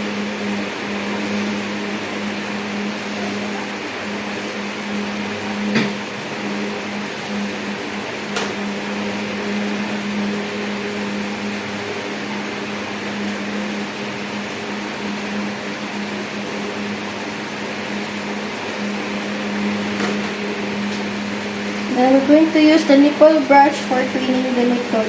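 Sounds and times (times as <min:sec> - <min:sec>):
constant hiss: 0:00.0 - 0:25.0
mechanical hum: 0:00.0 - 0:25.0.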